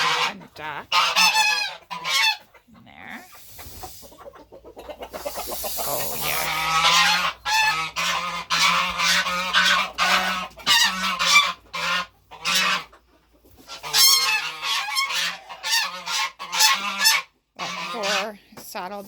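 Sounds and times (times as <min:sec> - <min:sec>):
geese honking: 0:00.0 - 0:13.0, 0:13.6 - 0:18.4.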